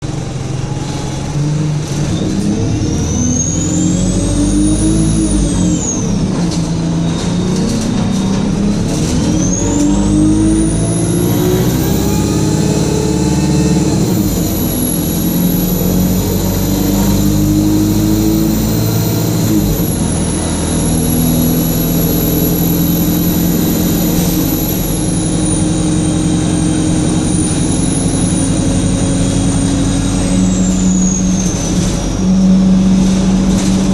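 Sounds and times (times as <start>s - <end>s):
bus engine pulling away: 0.0s - 33.9s
turbocharger whine: 0.0s - 33.9s.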